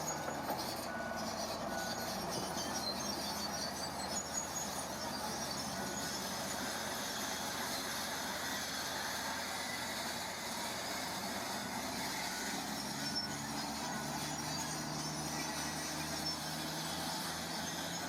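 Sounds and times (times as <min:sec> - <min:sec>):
construction machinery diesel engines: 0:00.0 - 0:18.0.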